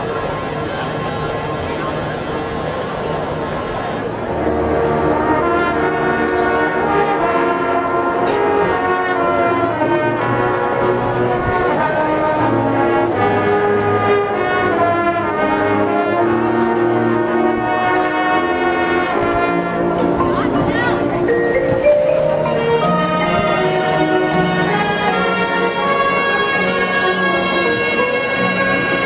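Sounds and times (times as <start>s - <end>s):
brass sustained chords: 0.0s - 29.0s
marching band playing: 4.2s - 29.0s.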